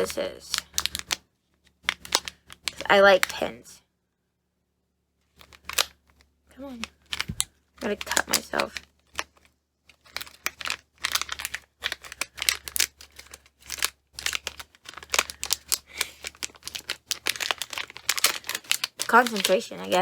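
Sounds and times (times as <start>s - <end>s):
packaging crinkling and tearing: 0.0s - 1.2s, 1.8s - 3.4s, 5.3s - 20.0s.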